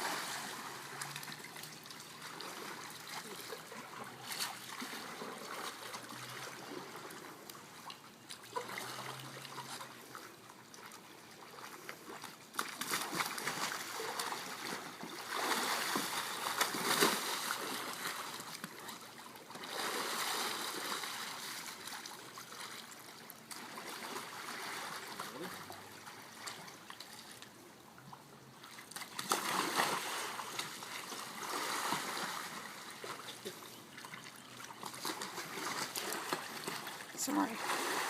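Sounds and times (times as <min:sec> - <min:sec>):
water splashing and trickling: 0:00.0 - 0:38.0.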